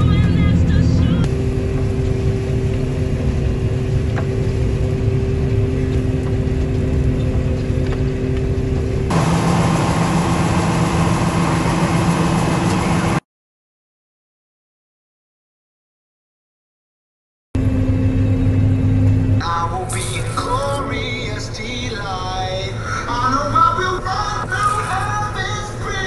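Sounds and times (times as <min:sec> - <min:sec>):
combine harvester humming: 0:00.0 - 0:13.2, 0:17.6 - 0:26.0
loud machine noise: 0:00.0 - 0:13.2, 0:17.6 - 0:26.0.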